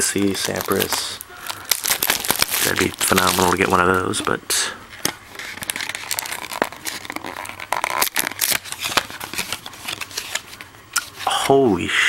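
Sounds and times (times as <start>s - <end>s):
plastic wrapping crinkling: 0.0s - 11.3s.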